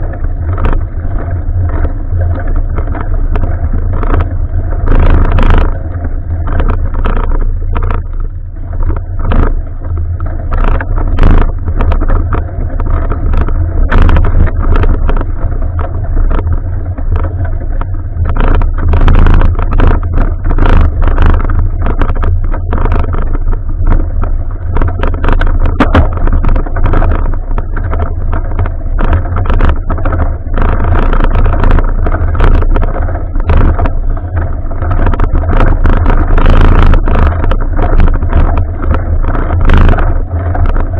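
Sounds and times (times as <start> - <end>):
sharp knocks and rattles: 0.0 - 40.9
wind buffeting microphone: 0.0 - 40.9.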